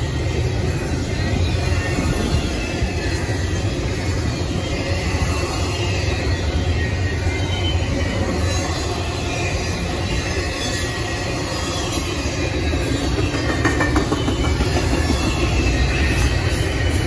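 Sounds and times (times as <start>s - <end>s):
freight train wheels rumbling: 0.0s - 17.0s
high wheel squeal: 0.0s - 17.0s.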